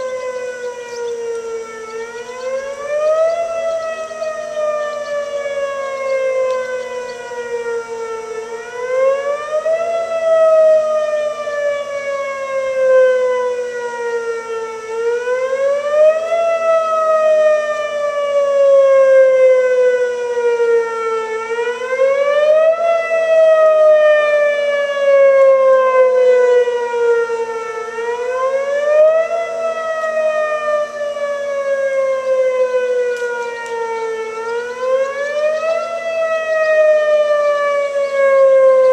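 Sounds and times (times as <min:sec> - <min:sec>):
rising and falling tornado siren: 0:00.0 - 0:38.9.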